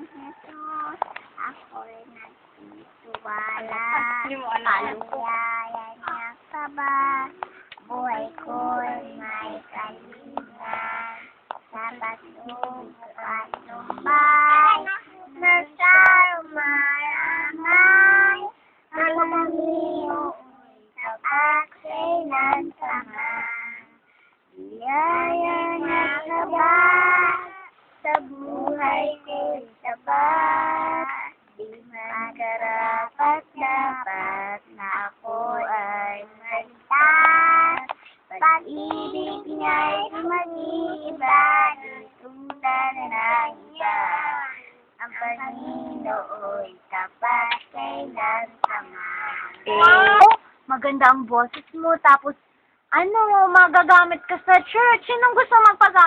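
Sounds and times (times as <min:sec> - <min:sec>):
girl singing unaccompanied: 0:00.0 - 0:50.5.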